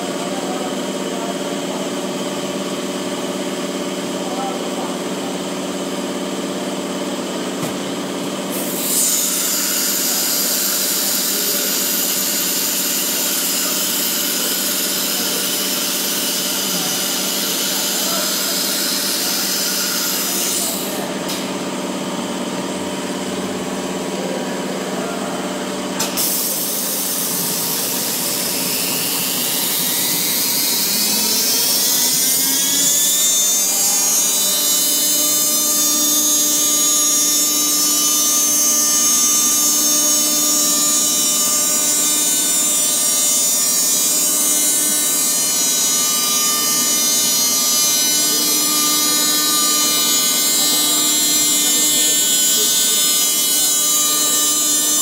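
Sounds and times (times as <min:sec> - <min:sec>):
router spindle whine: 0:08.3 - 0:55.0.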